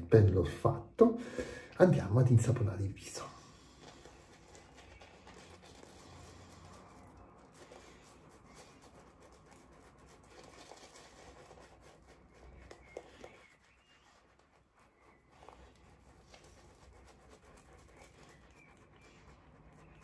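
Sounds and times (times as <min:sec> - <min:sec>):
shaving brush swishing: 0:03.2 - 0:20.0.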